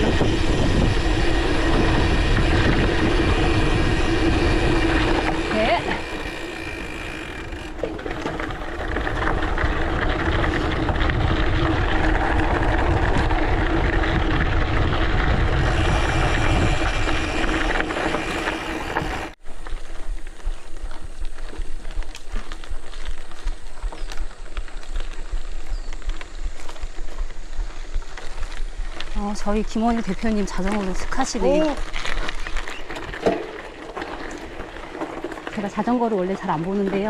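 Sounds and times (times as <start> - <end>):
bike tyres rolling on gravel: 0.0 - 37.0
wind rumble on microphone: 0.0 - 37.0.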